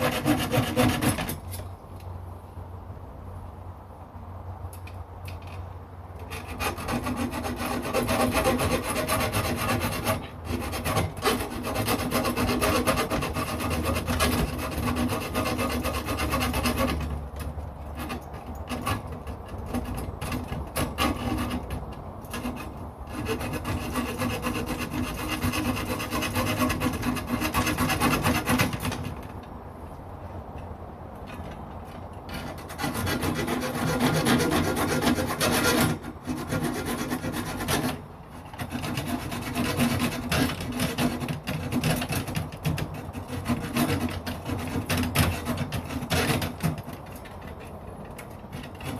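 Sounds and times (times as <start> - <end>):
hacksaw cutting metal: 0.0 - 1.7, 6.2 - 29.4, 31.2 - 48.9.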